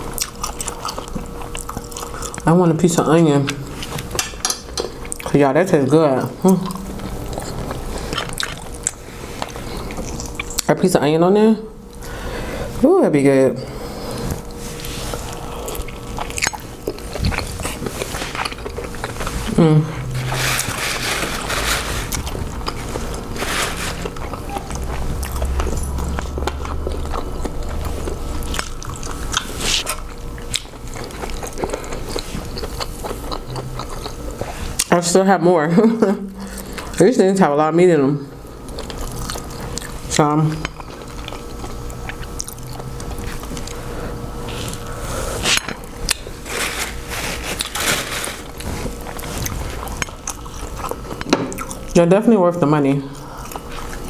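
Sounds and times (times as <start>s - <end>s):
person chewing: 0.0s - 5.4s, 6.2s - 10.7s, 14.0s - 34.9s, 38.5s - 52.0s, 53.1s - 54.0s
low room hum: 0.0s - 54.0s.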